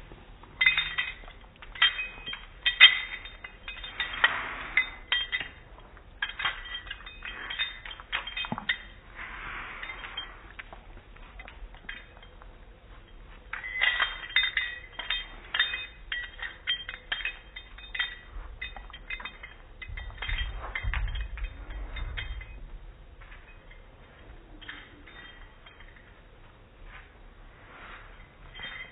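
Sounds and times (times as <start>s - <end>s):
low handling rumble: 0.0s - 28.9s
dog collar tags jingling: 0.5s - 9.1s, 9.8s - 26.3s, 28.2s - 28.9s.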